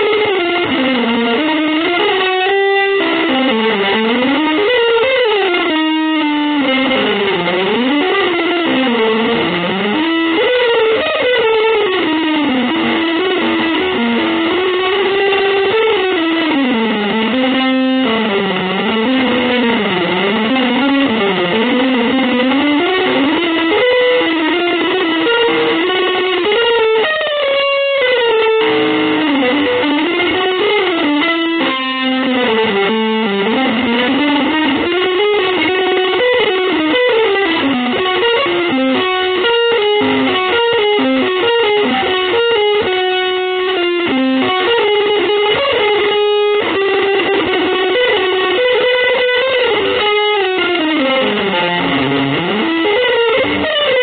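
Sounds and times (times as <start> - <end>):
electric guitar through effects: 0.0 - 54.0.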